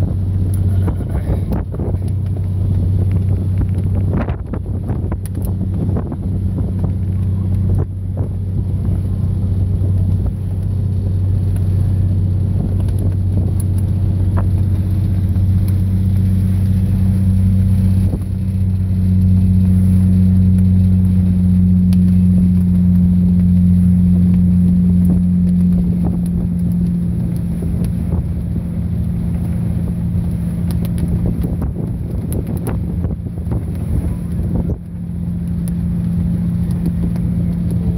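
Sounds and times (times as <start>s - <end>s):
boat engine running: 0.0s - 37.9s.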